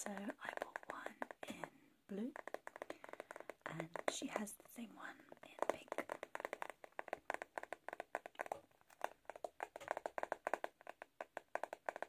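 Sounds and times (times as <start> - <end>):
fingernails tapping plastic: 0.0 - 12.0.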